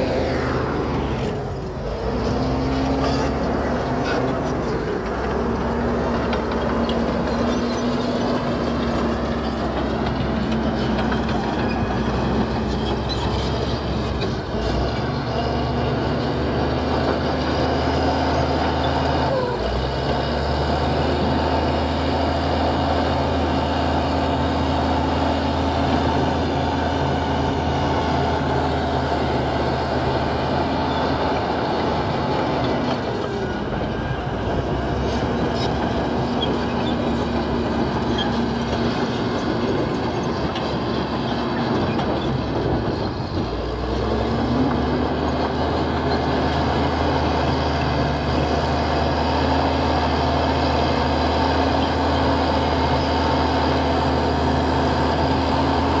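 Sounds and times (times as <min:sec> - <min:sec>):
bulldozer diesel engine: 0:00.0 - 0:56.0
crawler tracks squealing and clanking: 0:00.0 - 0:56.0.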